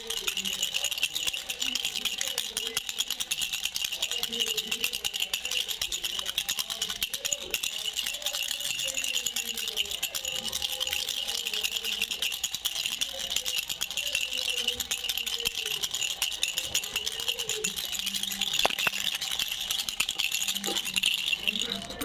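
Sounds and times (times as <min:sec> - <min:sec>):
toy rattle shaken: 0:00.0 - 0:22.0.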